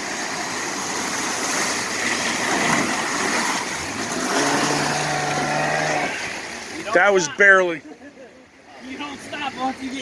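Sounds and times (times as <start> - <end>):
rushing river water: 0.0 - 10.0.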